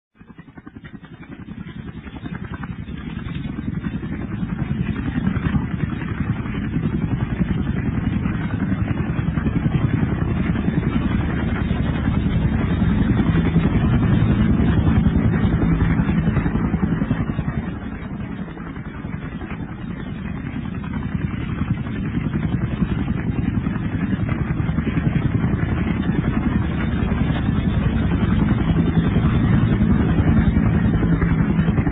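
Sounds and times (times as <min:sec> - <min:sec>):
low engine drone: 0:00.9 - 0:31.9.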